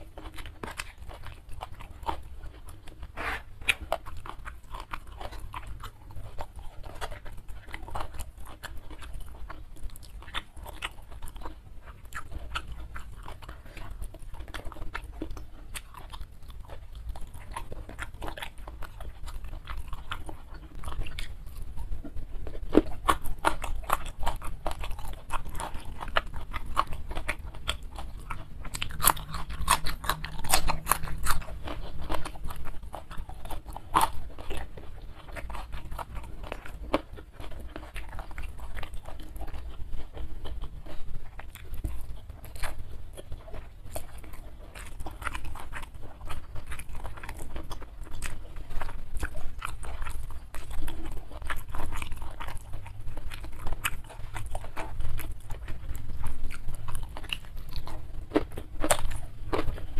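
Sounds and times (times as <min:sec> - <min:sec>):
wet chewing and crunching: 0:00.0 - 0:59.9.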